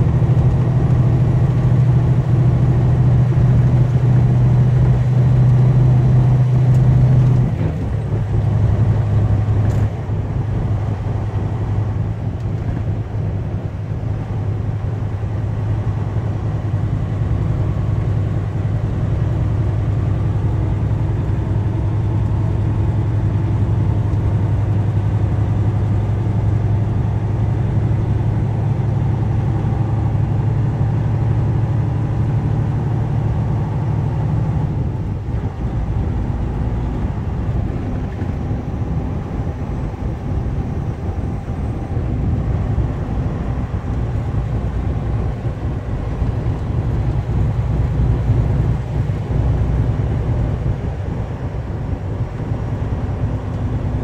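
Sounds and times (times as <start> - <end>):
road noise: 0.0 - 54.0
truck diesel engine droning: 0.0 - 54.0.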